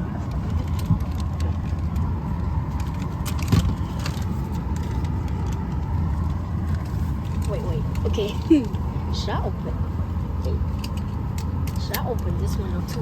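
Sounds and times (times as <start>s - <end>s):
airliner cabin rumble and hum: 0.0s - 13.0s
cabin air running: 0.0s - 13.0s
small clicks and rattles: 0.2s - 8.8s, 10.4s - 13.0s.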